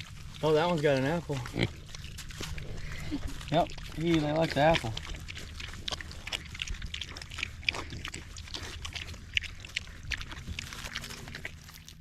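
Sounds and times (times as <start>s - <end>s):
pigs crunching and chomping food: 0.0s - 12.0s.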